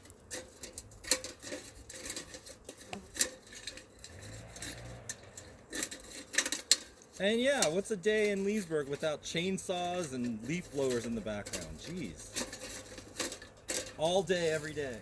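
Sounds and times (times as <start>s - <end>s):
dry sticks clicking and rattling: 0.0s - 15.0s.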